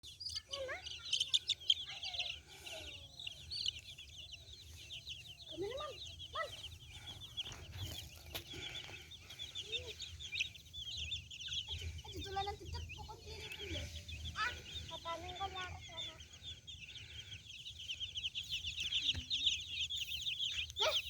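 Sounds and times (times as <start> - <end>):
chicks peeping: 0.0 - 21.0
hen clucking: 0.4 - 21.0.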